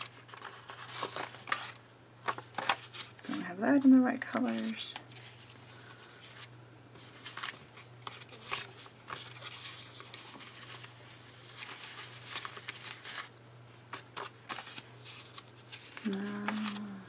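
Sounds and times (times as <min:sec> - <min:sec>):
paper rustling: 0:00.0 - 0:13.3, 0:13.9 - 0:17.0
steady low hum: 0:00.0 - 0:17.0.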